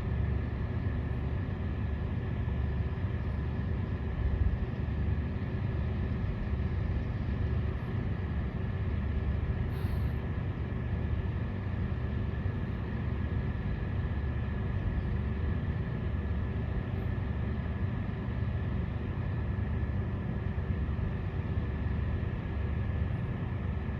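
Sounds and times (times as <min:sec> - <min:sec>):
constant high whine: 0:00.0 - 0:23.9
machinery low rumble: 0:00.0 - 0:23.9.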